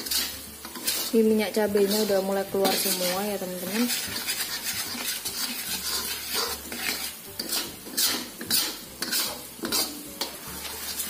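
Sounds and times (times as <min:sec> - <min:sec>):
metal spatula scraping wok: 0:00.0 - 0:11.0
paste sizzling in oil: 0:00.0 - 0:11.0.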